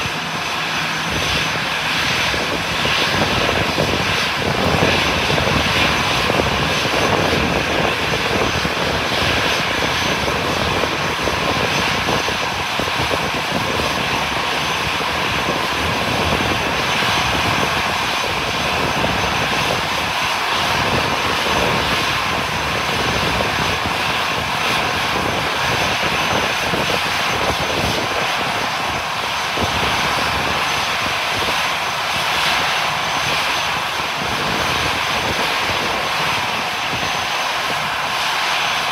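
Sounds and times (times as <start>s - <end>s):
airplane engines running: 0.0s - 38.9s.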